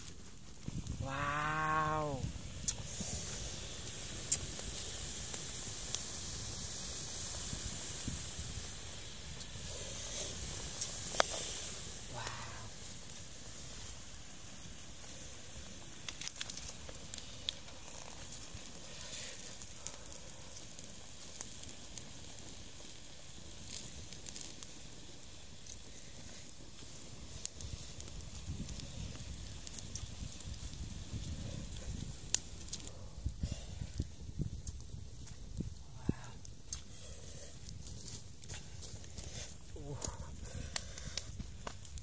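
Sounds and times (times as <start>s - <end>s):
sharp pops of fire: 0.0s - 42.0s
wood fire crackling: 0.0s - 42.0s.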